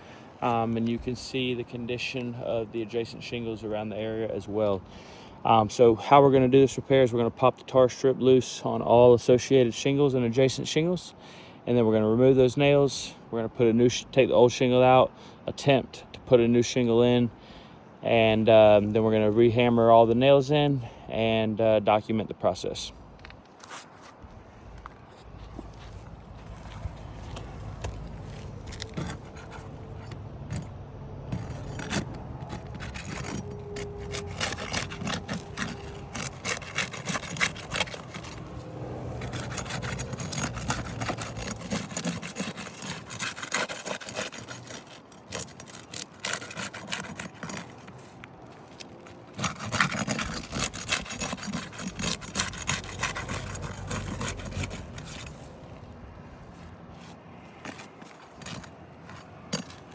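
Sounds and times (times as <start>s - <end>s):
pry bar scraping under shingles: 0.0s - 7.5s, 12.2s - 21.4s, 23.1s - 59.9s.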